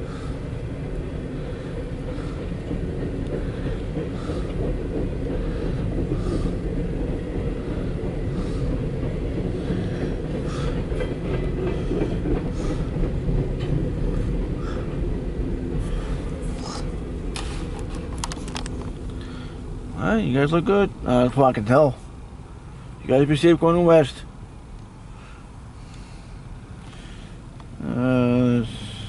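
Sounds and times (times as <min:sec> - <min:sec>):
regular rail click: 0:00.0 - 0:27.8
train cars rumbling and rattling: 0:00.0 - 0:29.0.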